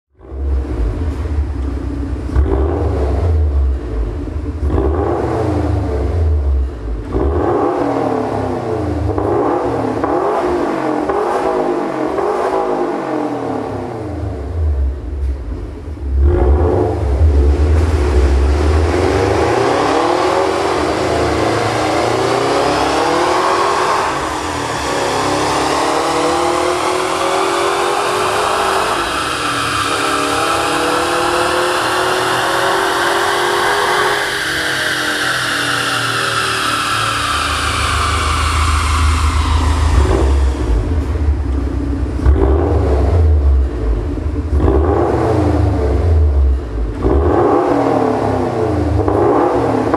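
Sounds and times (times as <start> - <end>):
car engine revving: 0.2 - 49.9.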